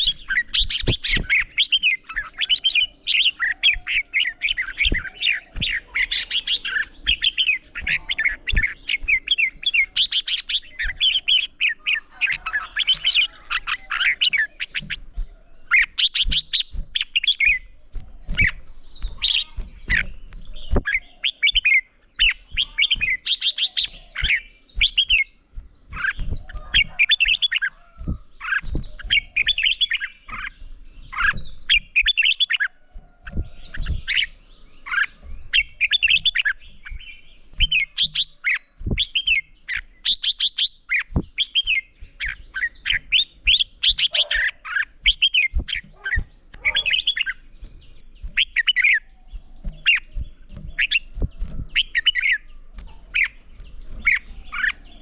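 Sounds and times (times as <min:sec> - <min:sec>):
bird warbling song: 0:00.0 - 0:55.0.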